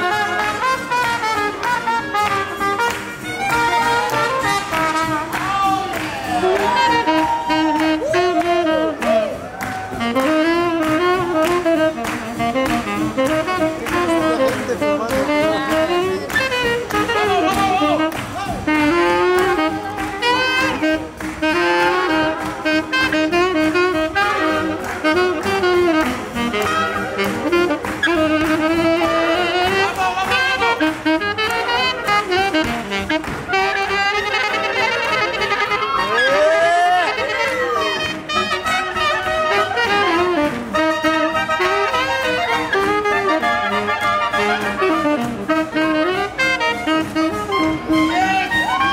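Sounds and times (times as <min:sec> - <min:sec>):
hand clapping: 0:00.0 - 0:48.9
jazz horn section playing: 0:00.0 - 0:48.9.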